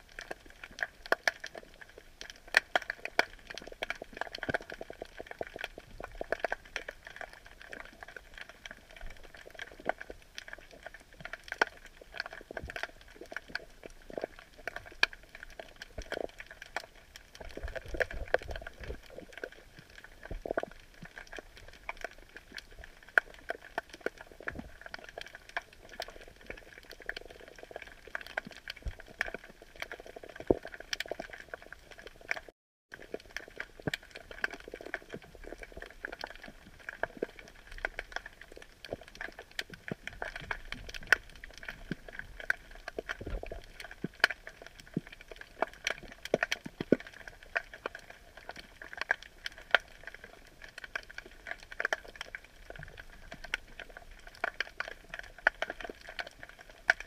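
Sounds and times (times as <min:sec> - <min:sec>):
snapping shrimp crackling underwater: 0:00.0 - 0:57.0.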